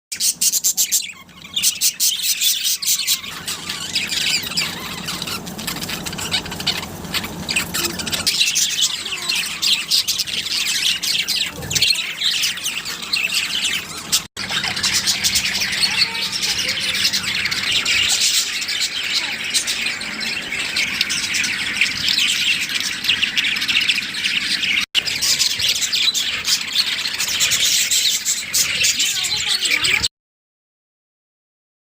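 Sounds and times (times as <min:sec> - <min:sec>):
parrots chirping and squawking: 0:00.1 - 0:30.1.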